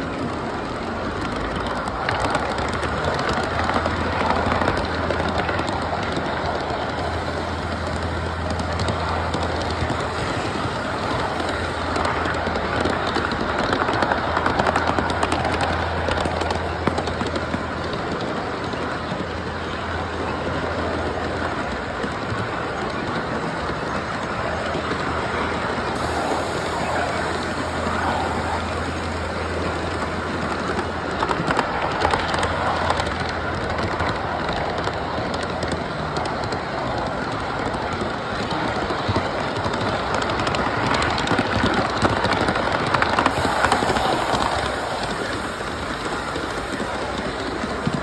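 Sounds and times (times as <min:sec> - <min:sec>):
rail joint clicks: 0:00.0 - 0:48.0
wheels rumbling on rail: 0:00.0 - 0:48.0.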